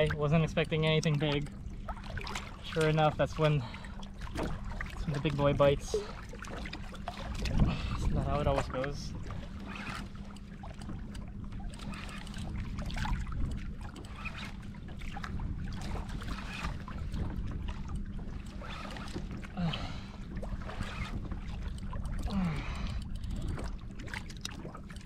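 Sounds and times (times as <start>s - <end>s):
water lapping against kayak: 0.0s - 25.0s
wind rumble on microphone: 0.0s - 25.0s.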